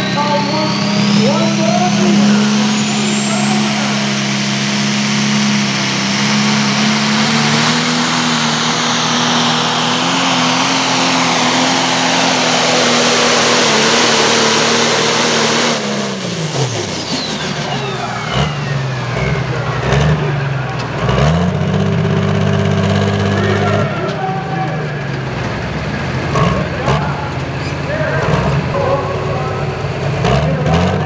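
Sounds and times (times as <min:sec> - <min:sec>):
diesel engine droning loudly: 0:00.0 - 0:31.0.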